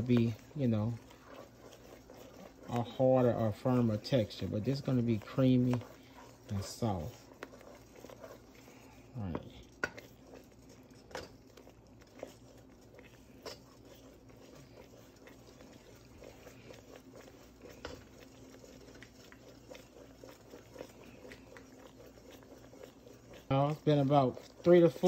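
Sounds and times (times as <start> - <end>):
spoon stirring thick syrup: 0.0 - 25.0.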